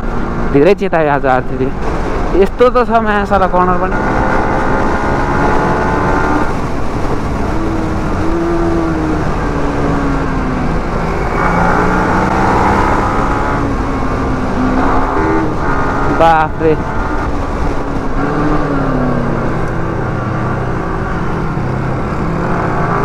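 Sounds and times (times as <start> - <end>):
wind rush: 1.6 - 23.0
motorcycle engine revving: 3.4 - 23.0.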